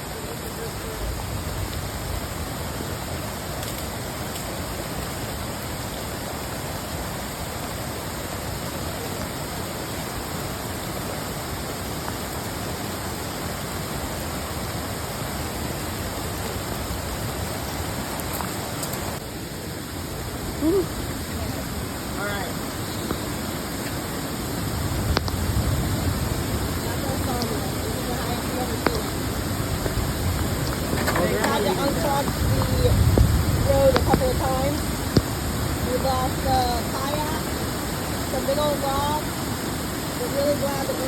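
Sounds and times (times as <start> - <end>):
flood water rushing: 0.0 - 41.0.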